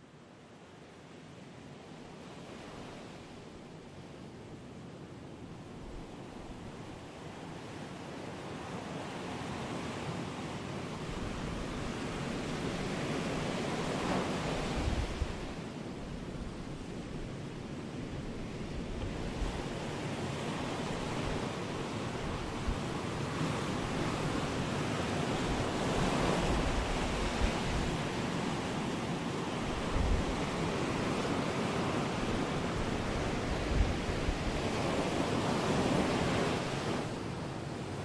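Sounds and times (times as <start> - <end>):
ocean surf breaking on shore: 6.2 - 38.0.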